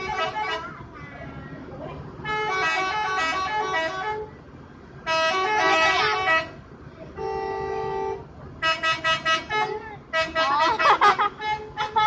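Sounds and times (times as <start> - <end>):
multi-tone bus air horn melody: 0.0 - 0.7, 2.2 - 4.3, 5.0 - 12.0.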